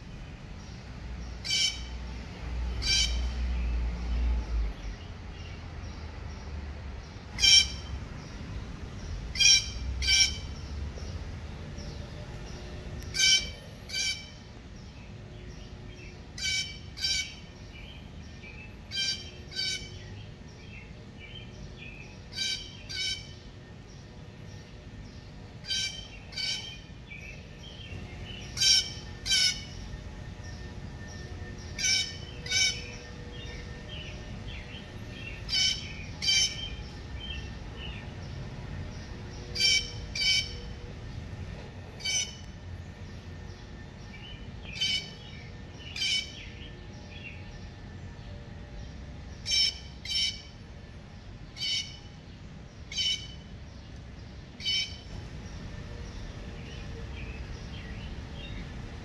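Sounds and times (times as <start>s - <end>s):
faint birds chirping: 0.0s - 59.0s.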